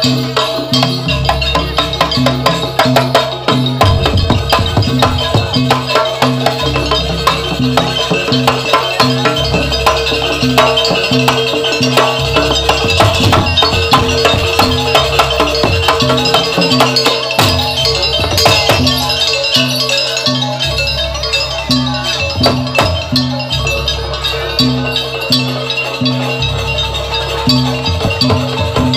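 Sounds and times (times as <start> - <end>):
percussion ensemble music: 0.0 - 28.9.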